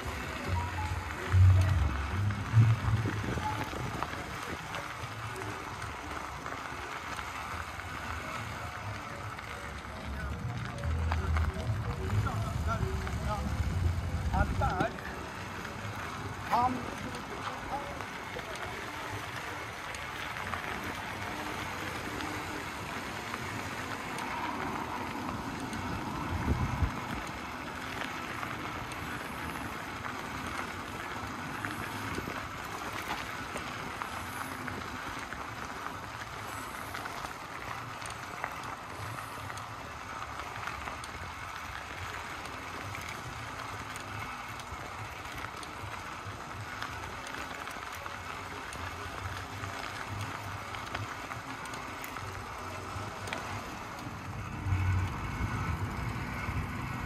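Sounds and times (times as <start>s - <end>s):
bicycle tyres crunching on gravel: 0.0s - 57.0s.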